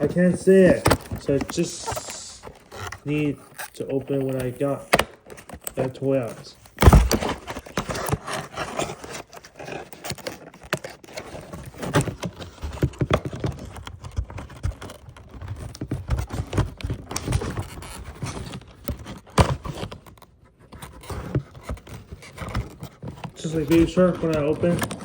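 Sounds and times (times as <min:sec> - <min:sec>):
cardboard box being handled: 0:00.0 - 0:25.0.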